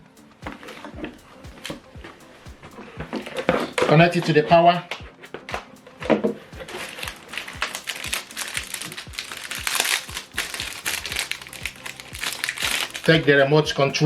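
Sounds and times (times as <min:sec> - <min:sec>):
background music with steady beat: 0:00.0 - 0:14.0
crinkling and clicking handling: 0:00.5 - 0:14.0.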